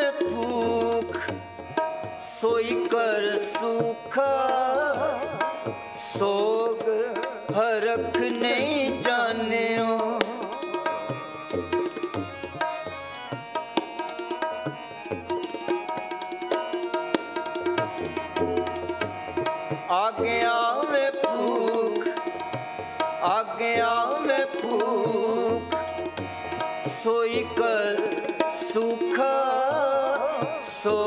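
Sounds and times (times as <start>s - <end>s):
harmonium: 0.0s - 31.0s
tabla rhythm: 0.0s - 31.0s.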